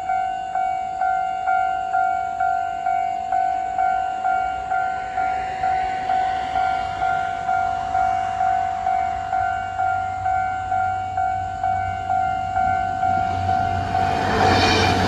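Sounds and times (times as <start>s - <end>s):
level crossing warning bell: 0.0s - 14.4s
train passing: 0.0s - 15.0s.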